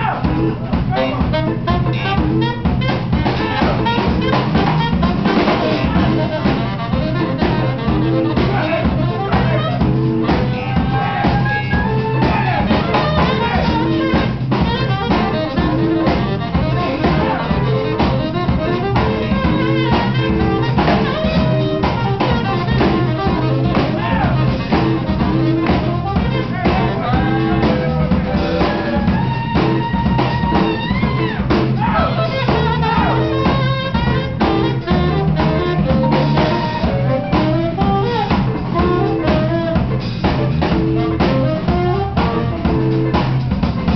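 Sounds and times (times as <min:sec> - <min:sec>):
drum kit: 0:00.0 - 0:43.9
electric bass: 0:00.0 - 0:43.9
saxophone melody: 0:00.0 - 0:43.9
electric guitar: 0:00.2 - 0:43.9.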